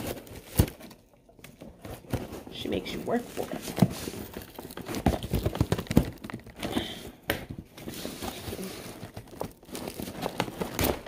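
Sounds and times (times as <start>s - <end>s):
hands handling cardboard: 0.0s - 11.0s.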